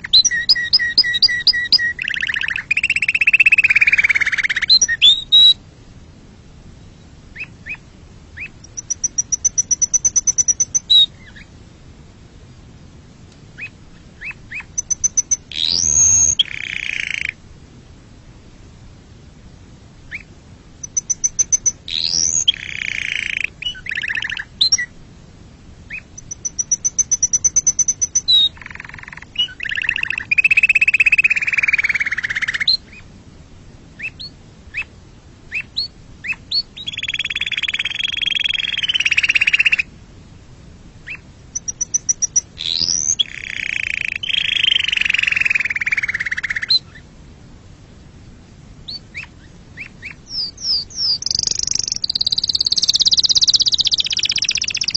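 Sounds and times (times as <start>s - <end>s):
canary singing trills: 0.0s - 5.6s, 6.9s - 11.6s, 13.6s - 17.4s, 20.1s - 25.0s, 25.9s - 33.1s, 34.0s - 39.9s, 41.0s - 47.1s, 48.8s - 54.9s.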